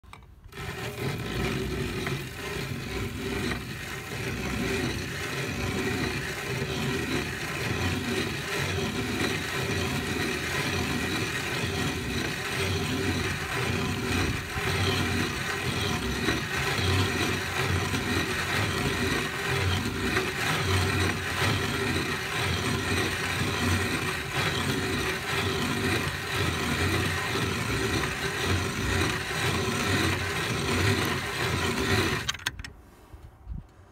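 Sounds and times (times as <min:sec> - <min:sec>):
hand-cranked grain mill grinding: 0:00.0 - 0:32.7.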